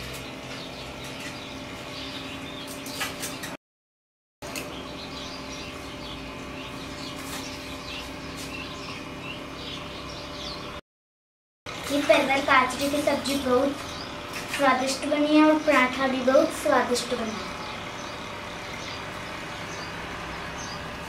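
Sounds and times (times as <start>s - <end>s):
small birds chirping: 0.0s - 3.6s, 4.4s - 10.8s, 11.7s - 21.0s
steady background hum: 0.0s - 3.6s, 4.4s - 10.8s, 11.7s - 21.0s.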